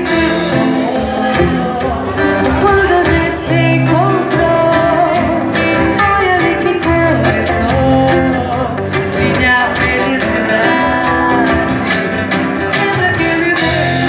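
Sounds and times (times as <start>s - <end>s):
plucked acoustic guitar: 0.0s - 14.0s
woman singing: 0.0s - 14.0s.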